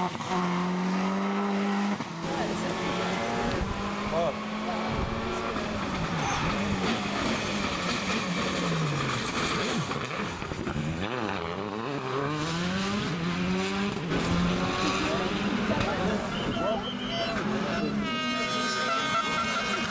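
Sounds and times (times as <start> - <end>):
rally car engine revving: 0.0 - 19.9.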